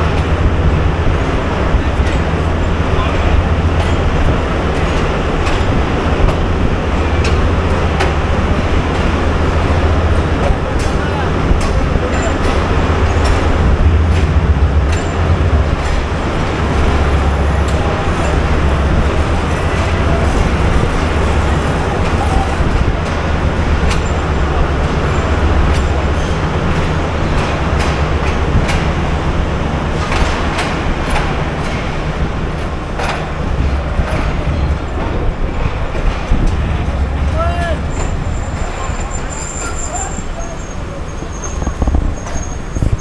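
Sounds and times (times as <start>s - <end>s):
train rumbling: 0.0s - 43.0s
wheels clicking over rail joints: 0.0s - 43.0s.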